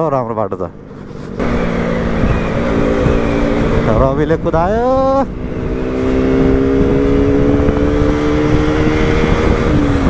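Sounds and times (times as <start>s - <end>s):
motorcycle engine accelerating: 0.7s - 10.0s
wind noise on microphone: 1.3s - 10.0s.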